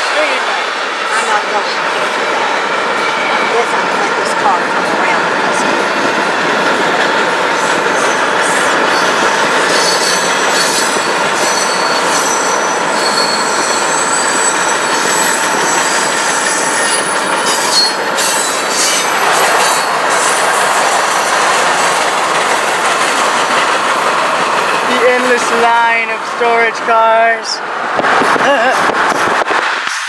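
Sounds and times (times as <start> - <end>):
train rolling noise: 0.0 - 30.0
steel wheels squealing on rails: 1.2 - 26.8.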